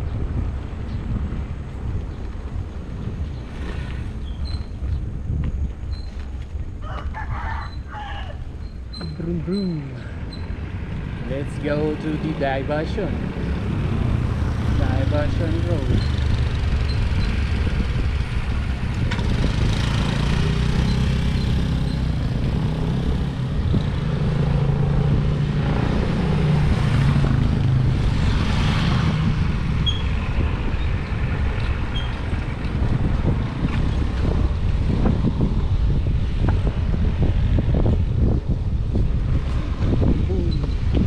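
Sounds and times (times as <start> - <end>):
road noise: 0.0 - 41.0
wind buffeting microphone: 0.0 - 41.0.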